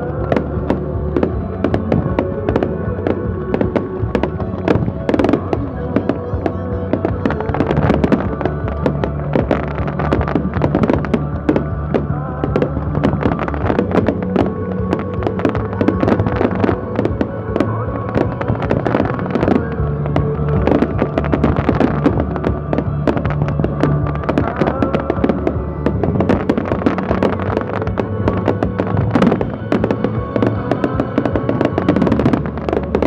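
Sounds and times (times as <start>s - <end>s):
fireworks crackling and popping: 0.0s - 33.0s
music with long held notes: 0.0s - 33.0s.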